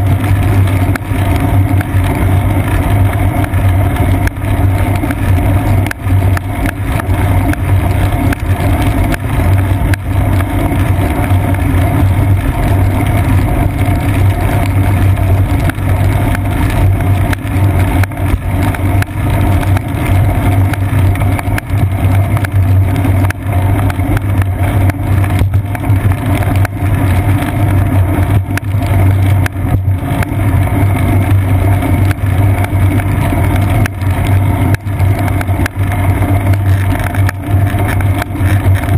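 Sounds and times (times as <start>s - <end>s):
bicycle road noise hum: 0.0s - 38.9s.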